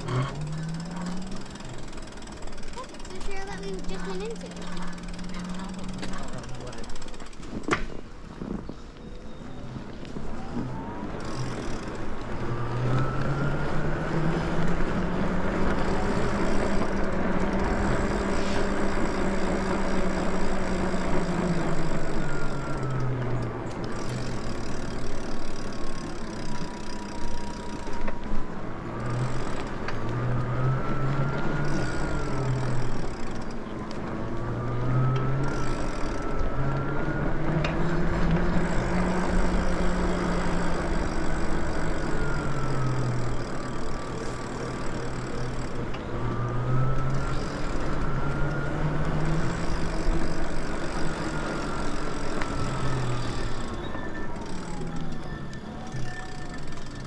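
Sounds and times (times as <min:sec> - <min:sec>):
electric bike motor whining: 0:00.0 - 0:57.0
wind and tyre noise: 0:00.0 - 0:57.0.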